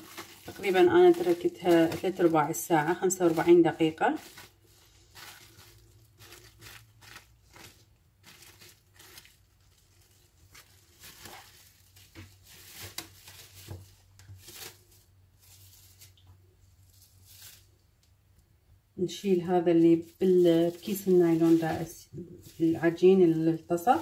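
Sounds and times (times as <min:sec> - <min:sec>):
plastic bag crinkling: 0:00.0 - 0:17.9, 0:19.4 - 0:24.0.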